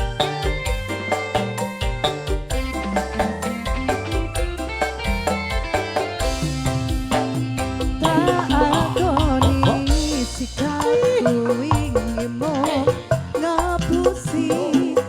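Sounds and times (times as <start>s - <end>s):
melodic lead line: 0.0s - 14.2s
drums and bass: 0.0s - 15.0s
live band music: 0.0s - 15.0s.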